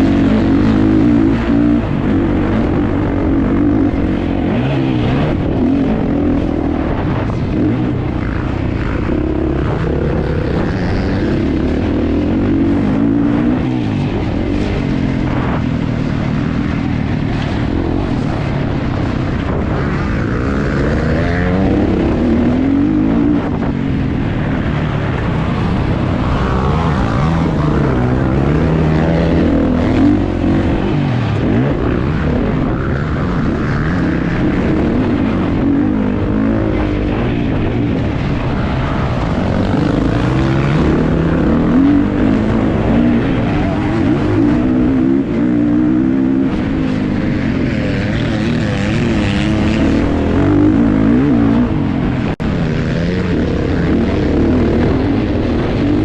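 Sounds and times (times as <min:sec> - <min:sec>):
motorcycle engine racing: 0:00.0 - 0:56.0.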